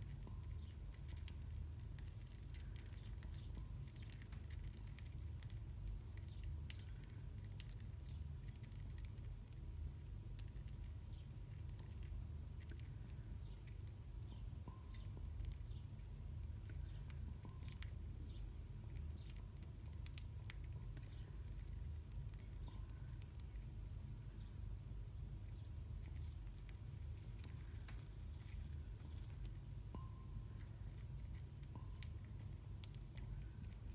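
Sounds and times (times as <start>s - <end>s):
beaks clicking on seed: 0.0s - 24.0s, 25.4s - 33.9s
low steady rumble: 0.0s - 33.9s.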